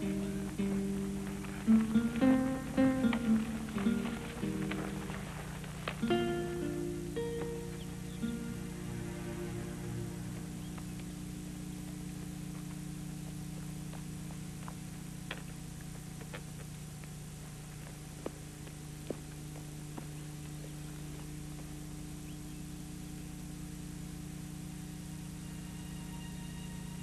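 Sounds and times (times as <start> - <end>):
background hiss: 0.0 - 27.0
steady low hum: 0.0 - 27.0.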